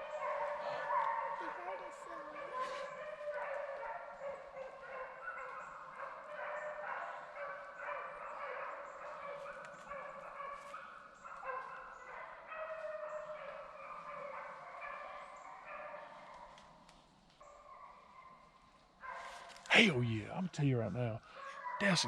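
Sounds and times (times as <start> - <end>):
hounds baying and barking: 0.0 - 22.0.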